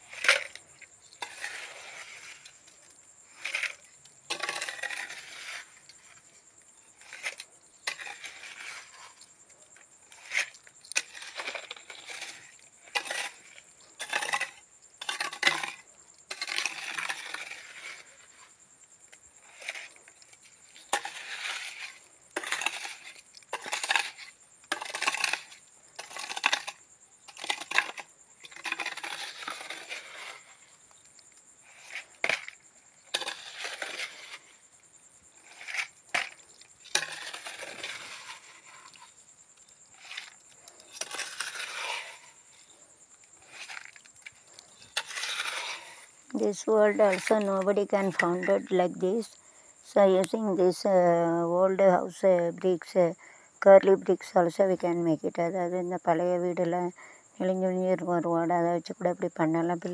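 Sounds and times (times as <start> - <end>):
gritty scraping of wet cement: 0.0 - 51.1.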